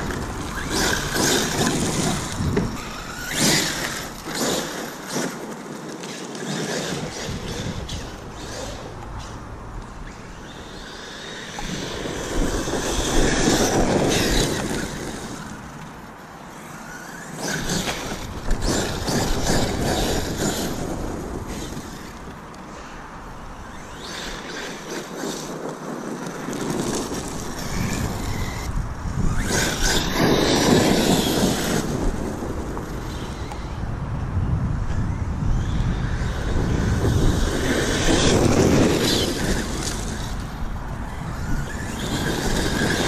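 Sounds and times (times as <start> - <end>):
rc truck scraping over rough ground: 0.0 - 43.0.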